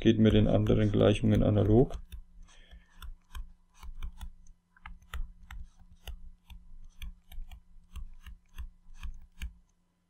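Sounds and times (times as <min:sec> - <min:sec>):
stylus tapping on touchscreen: 0:00.0 - 0:09.6.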